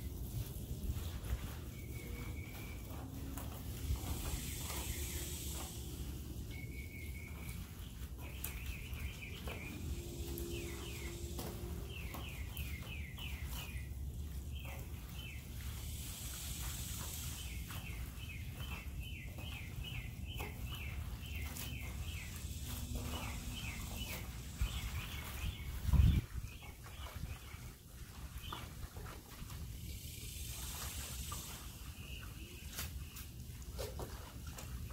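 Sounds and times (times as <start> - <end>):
steady low rumble: 0.0 - 32.2
bird chirping: 1.2 - 29.2.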